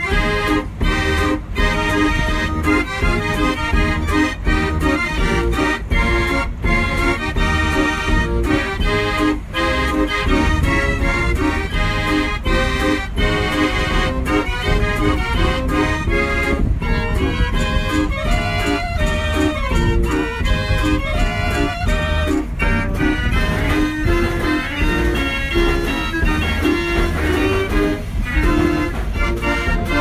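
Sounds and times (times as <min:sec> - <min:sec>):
instrumental background music: 0:00.0 - 0:30.0.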